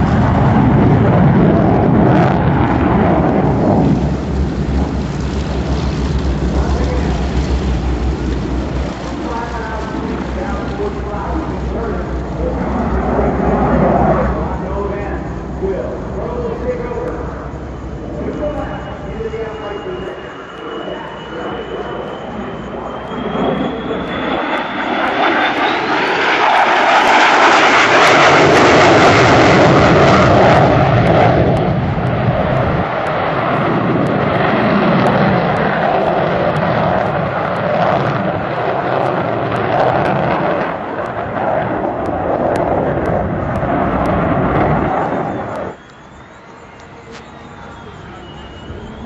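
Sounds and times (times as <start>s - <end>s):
jet engine roar: 0.0s - 49.0s
jet engine whine: 0.0s - 49.0s.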